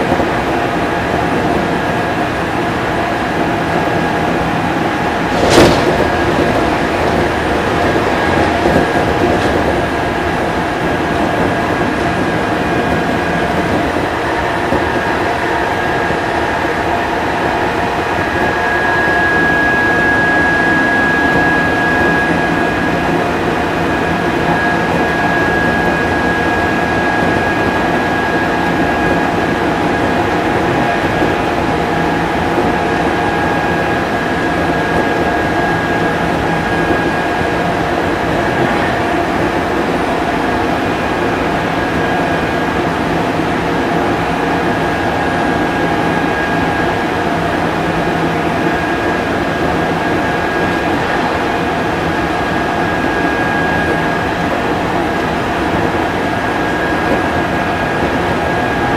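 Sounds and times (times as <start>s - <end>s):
electric train rumbling on rails: 0.0s - 58.9s
high steady whine: 0.0s - 58.9s.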